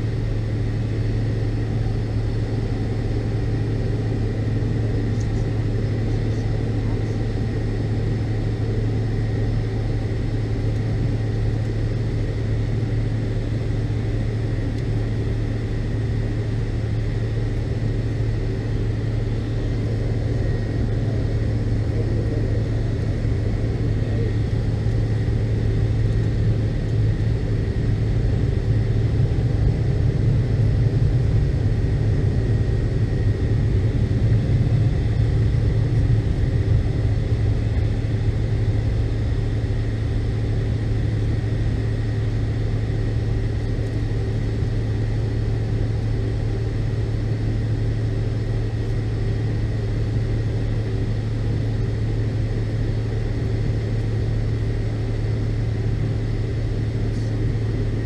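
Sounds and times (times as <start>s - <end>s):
airliner cabin jet engine drone: 0.0s - 58.0s.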